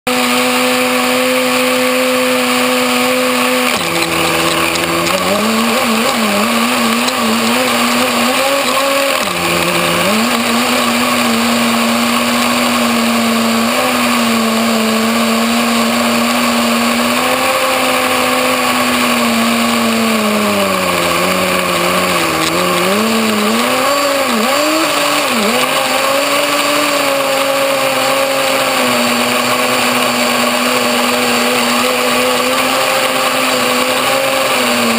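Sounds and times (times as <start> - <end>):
small engine buzzing at high revs: 0.0 - 34.9.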